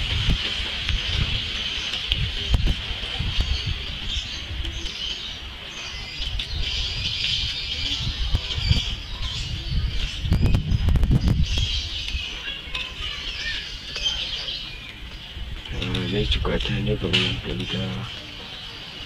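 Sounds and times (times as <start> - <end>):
wind rumbling on microphone: 0.0 - 18.2
birds chirping: 0.0 - 19.0.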